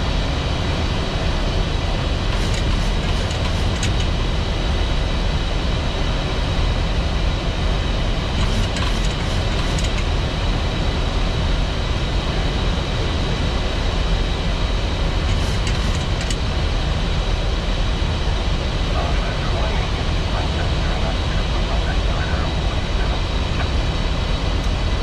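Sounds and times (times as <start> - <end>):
airflow and engine rush: 0.0 - 25.0
faint steady hum: 0.0 - 25.0.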